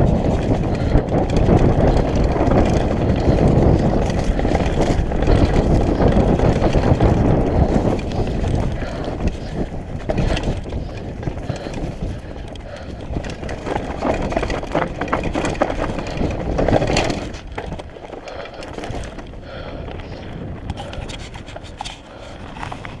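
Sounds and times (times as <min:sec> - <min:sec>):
bike rattling clicks and knocks: 0:00.0 - 0:23.0
bike tyres on dirt trail: 0:00.0 - 0:23.0.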